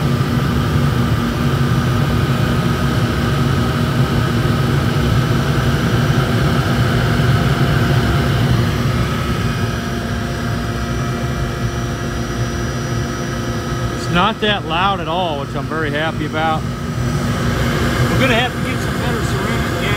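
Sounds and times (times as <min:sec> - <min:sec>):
faint blower hum: 0:00.0 - 0:19.9
burner roaring: 0:02.9 - 0:19.9.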